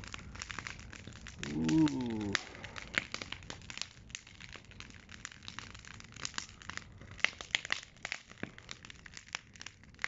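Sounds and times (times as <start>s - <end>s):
bonfire crackling and popping: 0.0s - 10.0s
faint hiss of burning: 0.0s - 10.0s.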